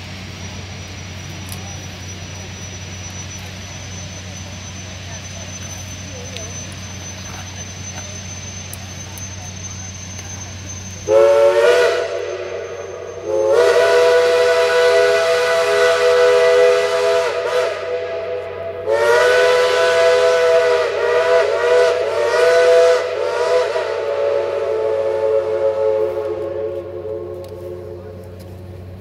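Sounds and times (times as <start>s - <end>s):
steam locomotive whistle: 0.0s - 28.7s.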